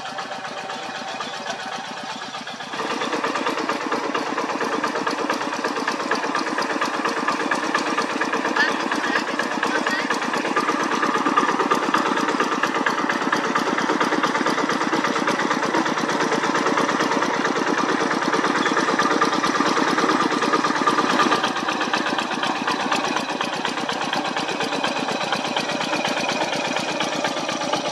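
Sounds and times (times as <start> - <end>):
diesel tractor engine running: 0.0 - 27.9.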